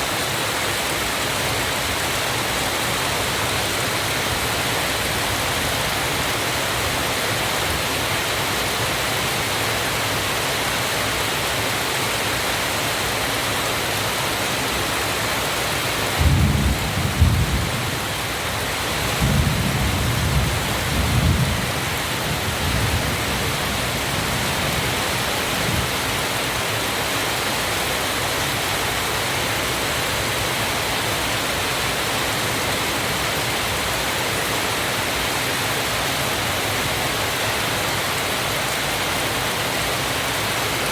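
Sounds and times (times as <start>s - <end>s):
waterfall rushing: 0.0s - 17.2s, 21.6s - 40.9s.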